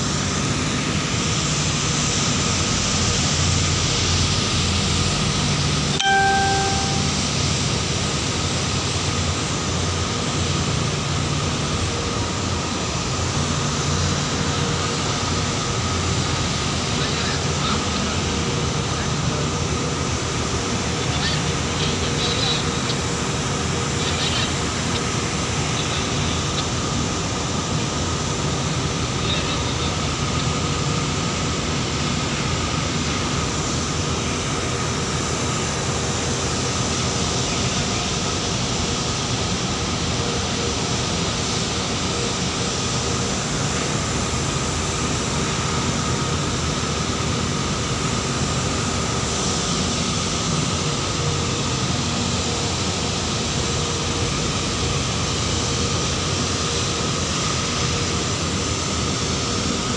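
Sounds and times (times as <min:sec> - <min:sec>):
boat engine droning: 0:00.0 - 0:59.9
faint steady whine: 0:00.0 - 0:59.9.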